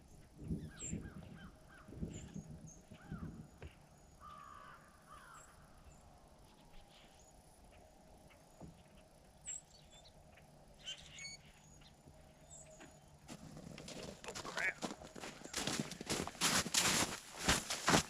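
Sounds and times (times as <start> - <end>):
distant bird calls: 0.0 - 18.0.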